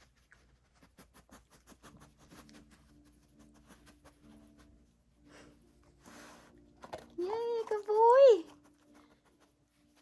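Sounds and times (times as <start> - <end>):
dog sniffing: 0.0 - 10.0.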